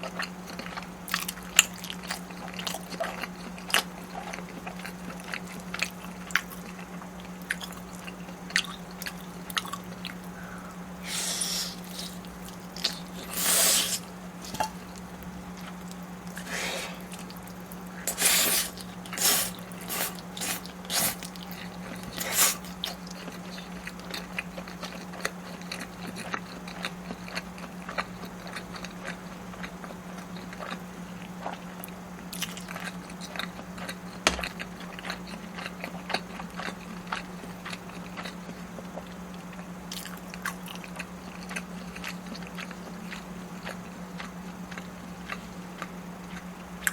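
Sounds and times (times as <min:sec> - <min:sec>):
wet chewing: 0:00.0 - 0:46.9.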